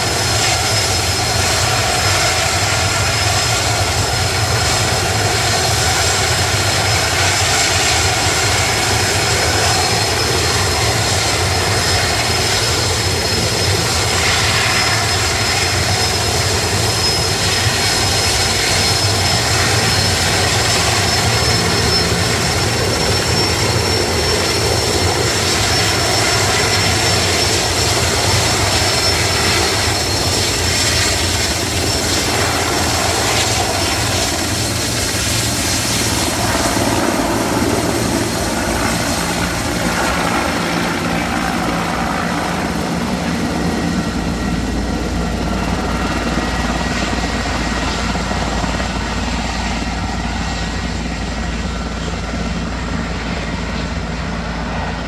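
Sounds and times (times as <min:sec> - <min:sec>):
helicopter engines and rotors roaring: 0:00.0 - 0:55.0
high turbine whine: 0:00.0 - 0:55.0.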